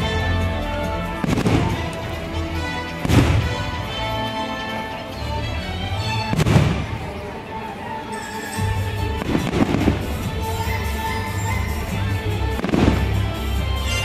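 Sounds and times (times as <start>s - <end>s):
fireworks bursting: 0.0s - 4.8s, 6.2s - 7.4s, 8.0s - 14.0s
music: 0.0s - 14.0s.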